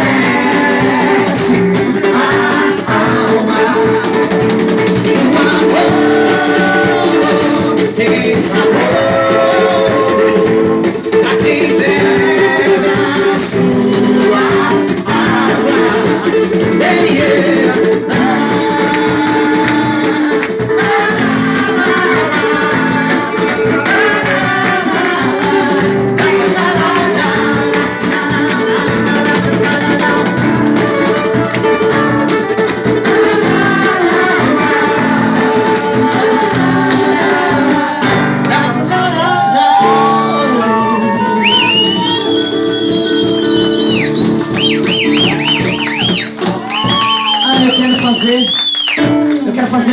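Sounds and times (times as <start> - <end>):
person singing: 0.0 - 48.6
acoustic guitar: 0.0 - 49.9.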